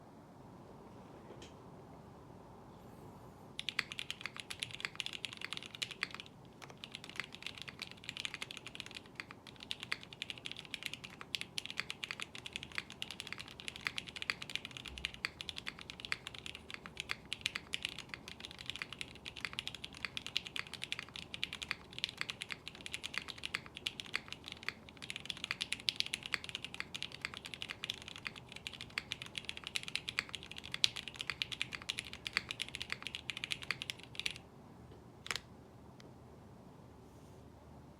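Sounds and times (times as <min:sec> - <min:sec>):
mechanical keyboard typing: 0:03.6 - 0:34.4, 0:35.2 - 0:35.4.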